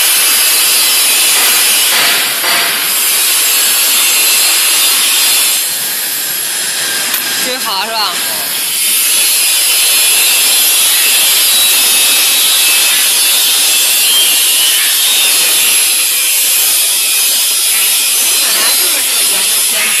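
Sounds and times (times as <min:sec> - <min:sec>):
plasma torch hissing: 0:00.0 - 0:20.0.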